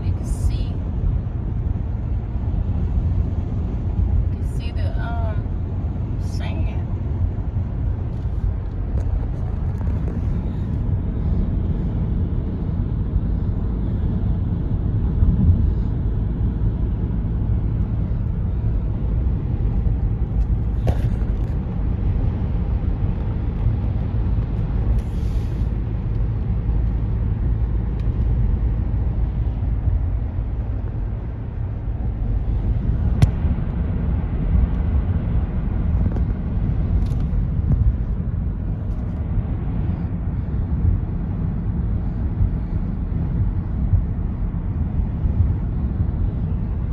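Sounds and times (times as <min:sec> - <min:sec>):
car road rumble: 0:00.0 - 0:46.9.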